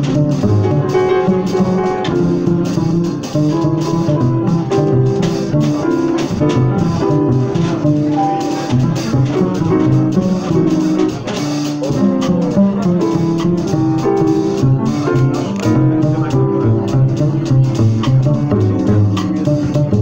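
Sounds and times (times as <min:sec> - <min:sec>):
double bass plucked: 0:00.0 - 0:20.0
drum kit playing lightly: 0:00.0 - 0:20.0.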